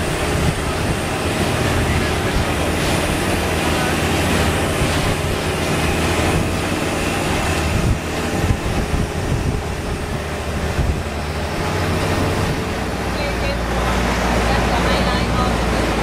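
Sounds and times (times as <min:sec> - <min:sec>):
boat engine droning: 0:00.0 - 0:16.0
water and wind rushing: 0:00.0 - 0:16.0.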